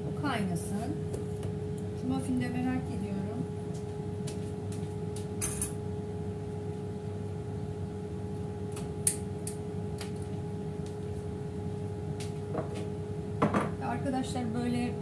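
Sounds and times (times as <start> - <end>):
air fryer fan humming: 0.0 - 15.0.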